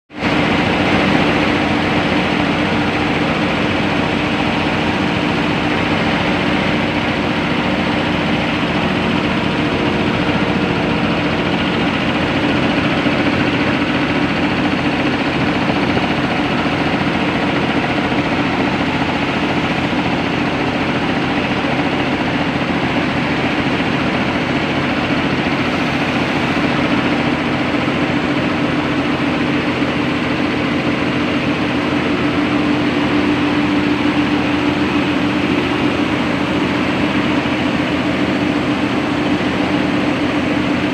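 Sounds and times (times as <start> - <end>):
air compressor running: 0.1 - 40.9.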